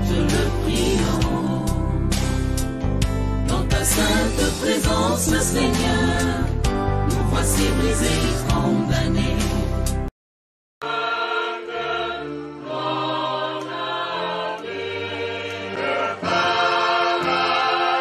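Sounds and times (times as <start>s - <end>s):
choir singing a hymn: 0.0s - 2.4s, 3.4s - 9.7s, 10.8s - 18.0s.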